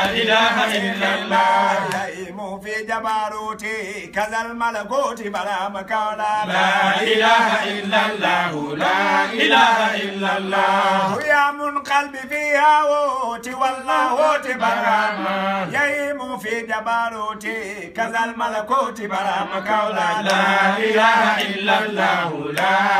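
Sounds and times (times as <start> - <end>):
men chanting devotional verses: 0.0 - 22.9.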